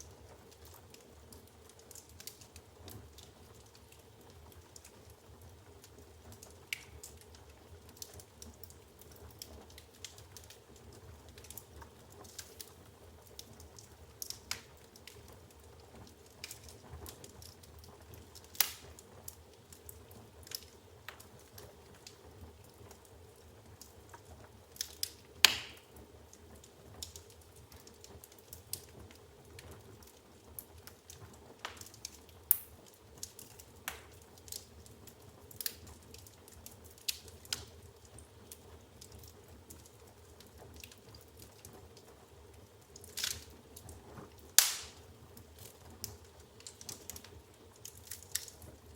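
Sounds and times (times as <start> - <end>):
faint steady fire hiss: 0.0 - 48.9
wood fire crackling and popping: 0.0 - 48.9.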